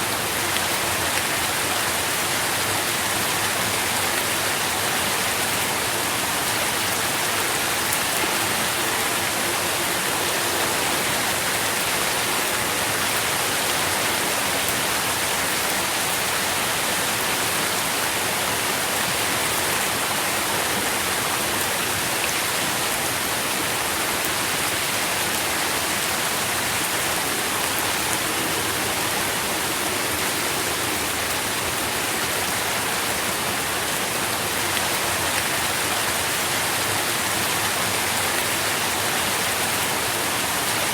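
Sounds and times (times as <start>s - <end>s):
rain pattering on leaves: 0.0s - 40.9s.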